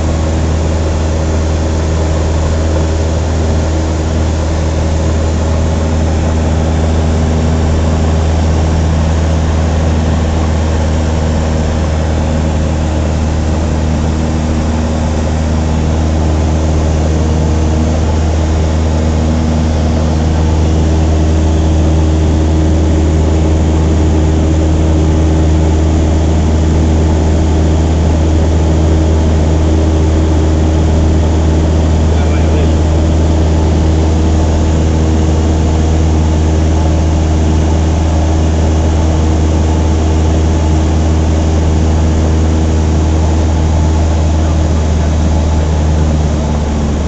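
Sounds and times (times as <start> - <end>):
light aircraft engine droning: 0.0 - 47.0.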